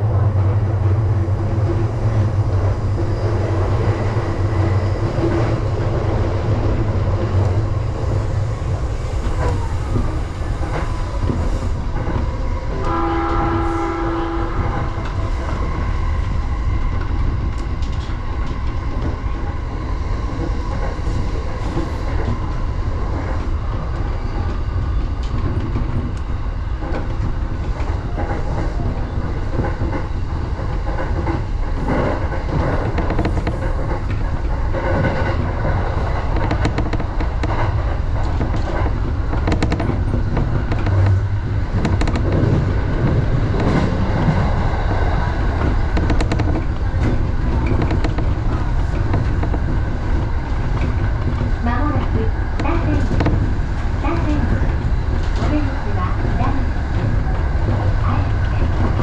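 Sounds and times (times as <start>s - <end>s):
clickety-clack of rail joints: 0.0s - 59.0s
train wheels rumbling: 0.0s - 59.0s.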